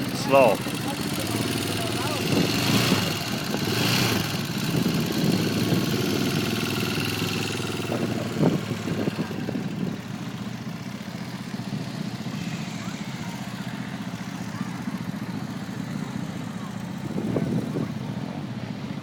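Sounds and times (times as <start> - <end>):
atv engine at low throttle: 0.0 - 19.0.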